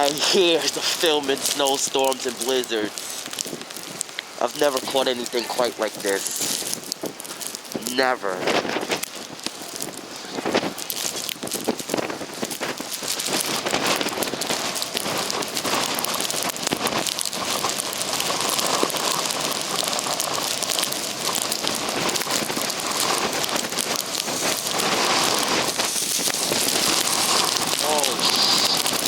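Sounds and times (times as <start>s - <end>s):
blizzard wind driving snow: 0.0s - 29.0s.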